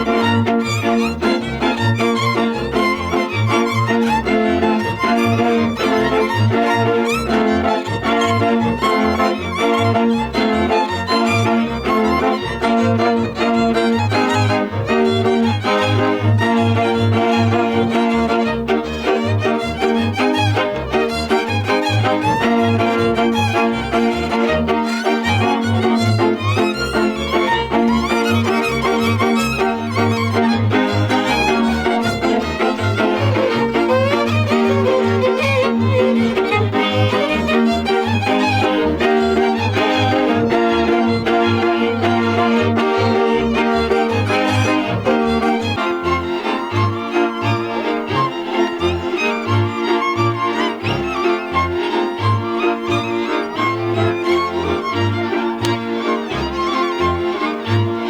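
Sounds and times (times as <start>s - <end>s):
accompanying string chords: 0.0s - 58.0s
fiddle melody: 0.0s - 58.0s.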